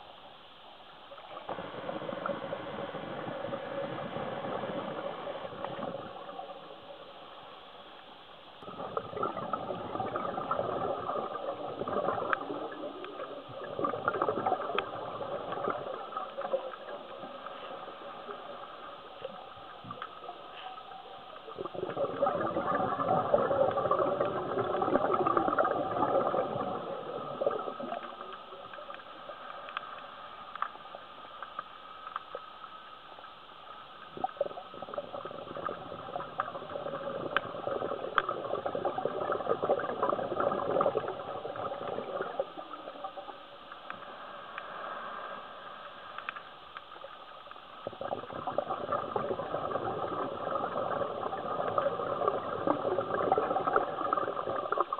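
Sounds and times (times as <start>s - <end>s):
regulator bubbles underwater: 0.0s - 54.9s.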